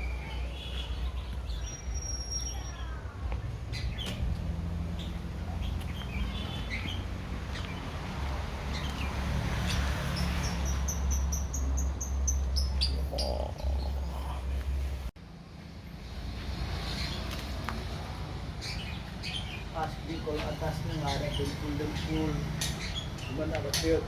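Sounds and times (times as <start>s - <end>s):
small birds chirping: 0.0s - 15.1s, 16.7s - 24.0s.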